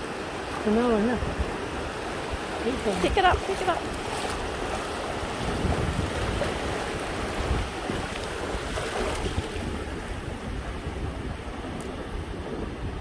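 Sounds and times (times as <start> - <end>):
small waves washing on beach: 0.0 - 13.0
wind buffeting microphone: 0.0 - 13.0.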